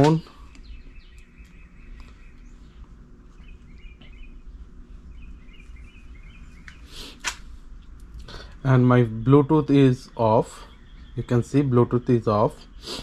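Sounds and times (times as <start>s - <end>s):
faint birds chirping: 0.0s - 13.0s
low steady hum: 0.0s - 13.0s.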